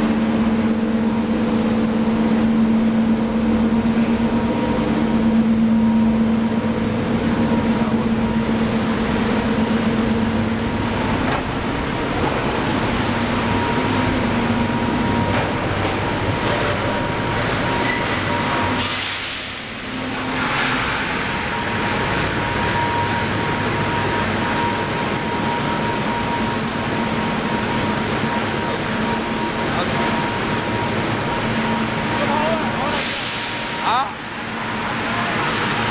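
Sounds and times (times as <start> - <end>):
rolling mill rumble and clatter: 0.0 - 35.9.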